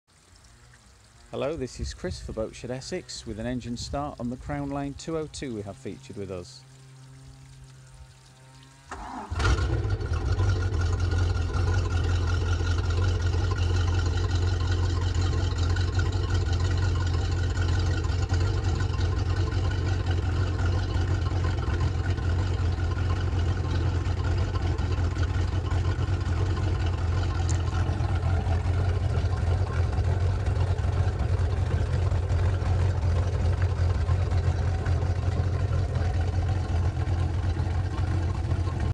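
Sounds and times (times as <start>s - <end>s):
boat engine starting and idling: 0.6s - 38.9s.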